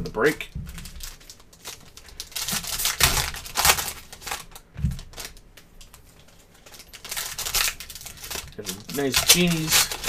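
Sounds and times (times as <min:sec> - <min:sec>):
foil wrapper crinkling: 0:00.1 - 0:10.0.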